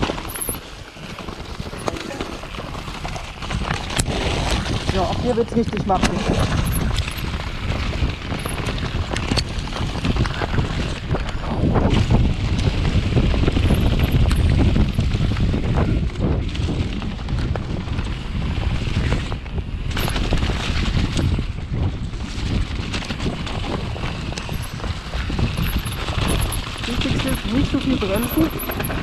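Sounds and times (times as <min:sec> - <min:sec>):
bike rattling clicks and knocks: 0:00.0 - 0:29.0
wind rushing over microphone: 0:00.0 - 0:29.0.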